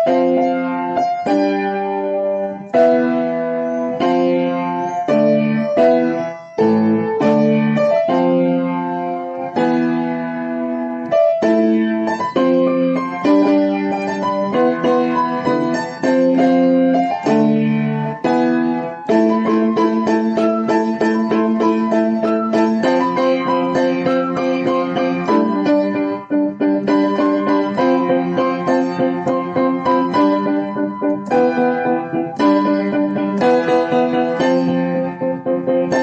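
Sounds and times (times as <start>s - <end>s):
keyboard playing chords: 0.0s - 36.0s.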